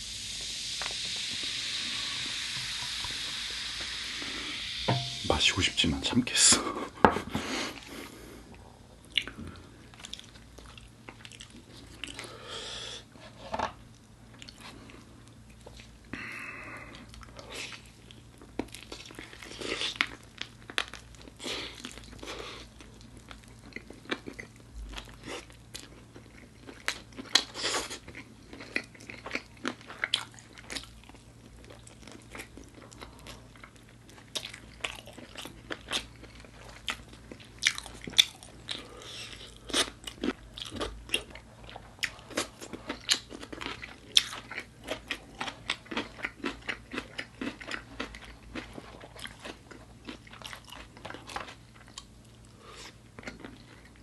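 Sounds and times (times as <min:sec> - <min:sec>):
chewing crispy fried food: 0:07.6 - 0:12.5, 0:13.8 - 0:54.0.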